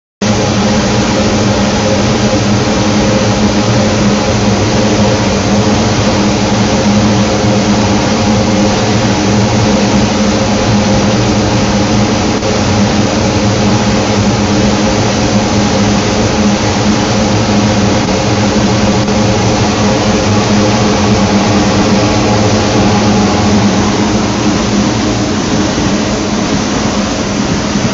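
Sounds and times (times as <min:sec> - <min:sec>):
machine hum over hiss: 0:00.2 - 0:27.9.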